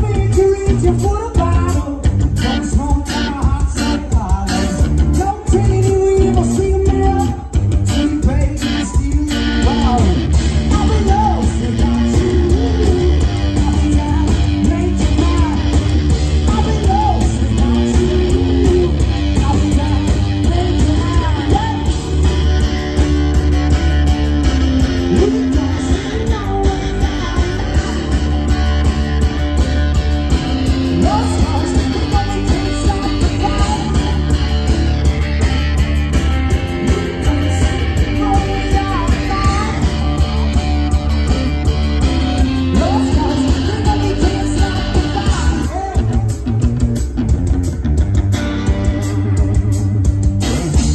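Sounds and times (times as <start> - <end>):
drums: 0.0 - 50.9
electric guitar: 0.0 - 50.9.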